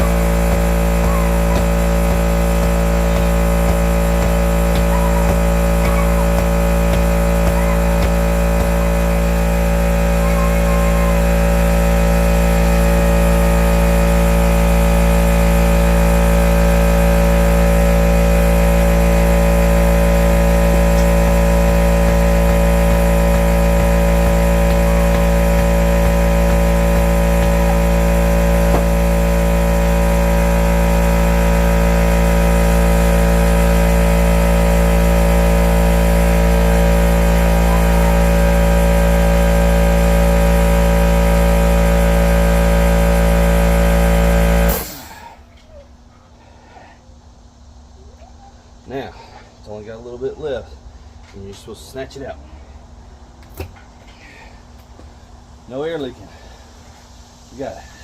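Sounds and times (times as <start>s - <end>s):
engine running steadily: 0.0s - 49.6s.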